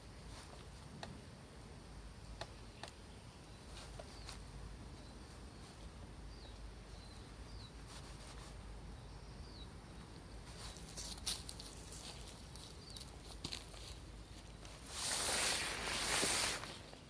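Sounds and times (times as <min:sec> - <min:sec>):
rustling: 0:00.0 - 0:01.3, 0:03.4 - 0:08.9, 0:10.0 - 0:17.0.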